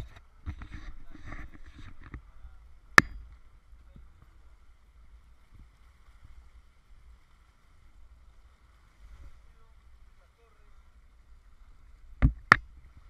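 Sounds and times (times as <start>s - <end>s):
faint wind rumble: 0.0s - 13.0s
water rushing past boat: 0.0s - 13.0s.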